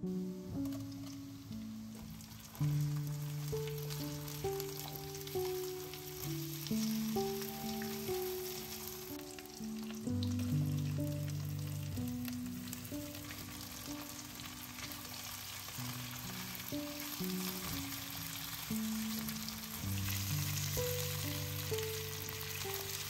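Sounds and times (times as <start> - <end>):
background music held notes: 0.0 - 23.0
food sizzling in oil: 0.1 - 23.0.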